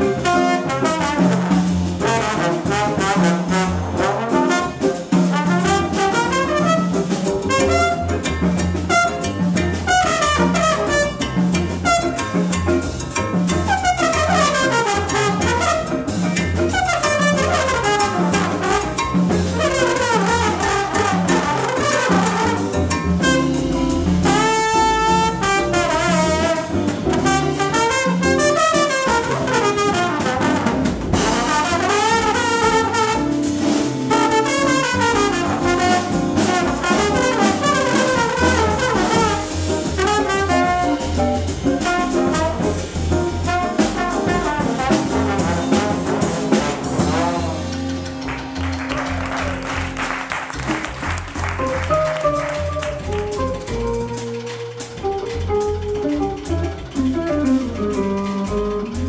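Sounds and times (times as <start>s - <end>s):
trombone solo: 0.0s - 12.4s, 13.7s - 49.9s
drum kit: 0.0s - 59.0s
upright bass: 0.0s - 59.0s.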